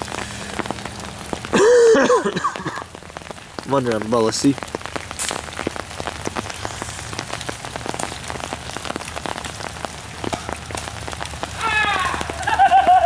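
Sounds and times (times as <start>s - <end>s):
rain on fabric umbrella: 0.0s - 13.0s.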